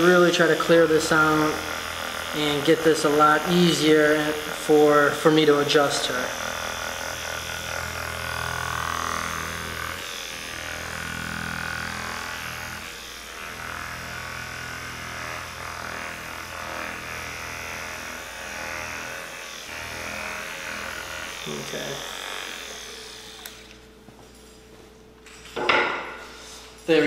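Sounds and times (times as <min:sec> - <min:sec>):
massage gun buzzing: 0:00.0 - 0:26.3.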